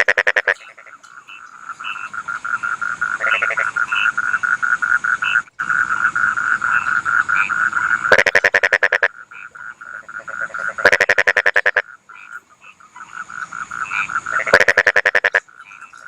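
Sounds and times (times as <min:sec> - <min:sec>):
frogs croaking in chorus: 0:00.0 - 0:16.0
nearby frog croaking harshly: 0:00.0 - 0:16.0.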